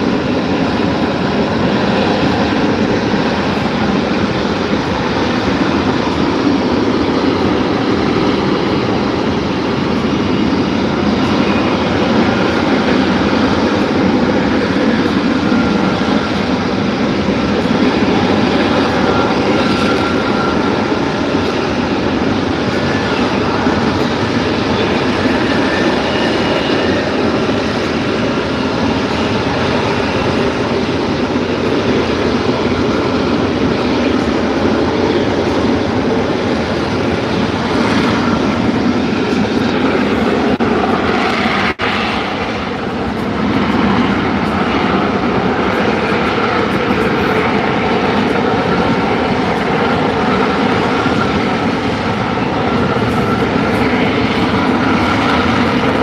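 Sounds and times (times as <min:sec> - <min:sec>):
jet engine roaring: 0:00.0 - 0:56.0.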